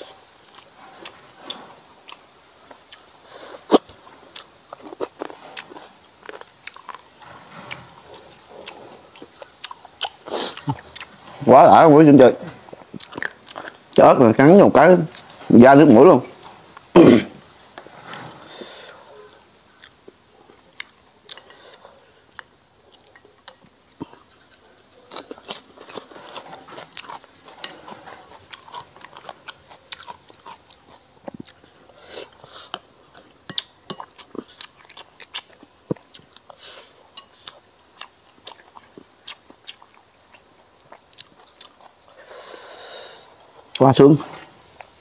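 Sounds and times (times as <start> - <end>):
person chewing with crunches: 0.0 - 11.8, 12.4 - 14.1, 15.0 - 45.0.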